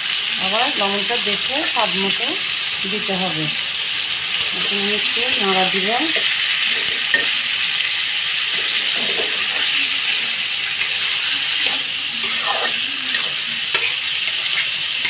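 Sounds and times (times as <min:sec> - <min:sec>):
potatoes sizzling in oil: 0:00.0 - 0:15.0.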